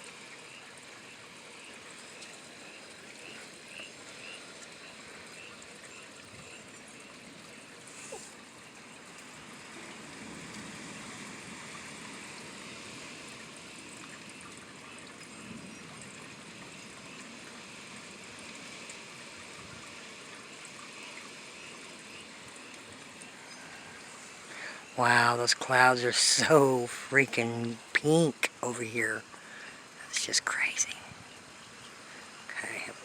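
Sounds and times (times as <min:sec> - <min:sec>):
rain falling steadily: 0:00.0 - 0:33.0.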